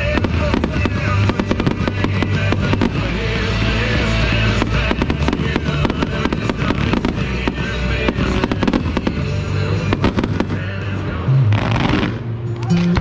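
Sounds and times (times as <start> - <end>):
country music on sound system: 0.0 - 13.0
fireworks crackling and banging: 0.0 - 13.0.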